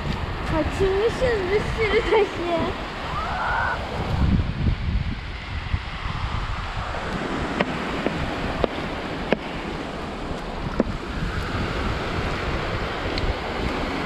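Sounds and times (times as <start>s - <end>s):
sea surf washing on shore: 0.0s - 14.0s
wind buffeting microphone: 0.0s - 14.0s.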